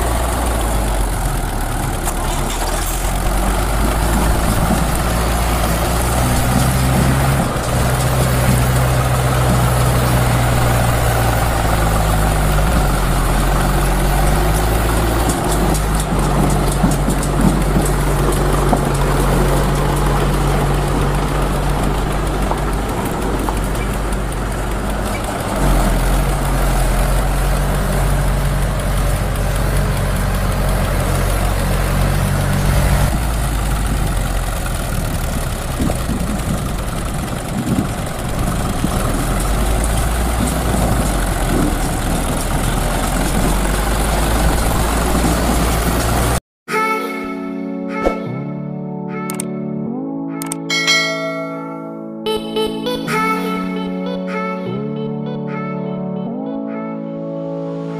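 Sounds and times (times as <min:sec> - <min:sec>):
tractor engine idling: 0:00.0 - 0:46.4.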